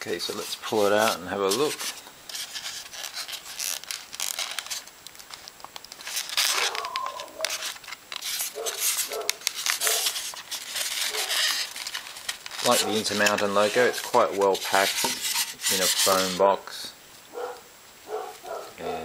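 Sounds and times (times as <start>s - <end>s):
foam rubbing and squeaking: 0.0s - 16.8s
plastic sleeve crinkling: 0.0s - 16.8s.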